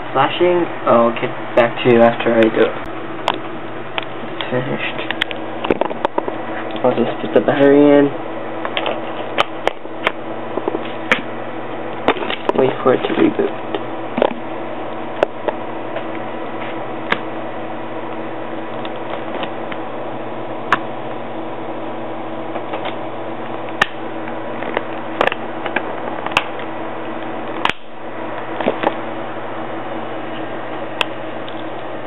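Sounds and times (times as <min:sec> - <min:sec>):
fan hum: 0:00.0 - 0:32.0.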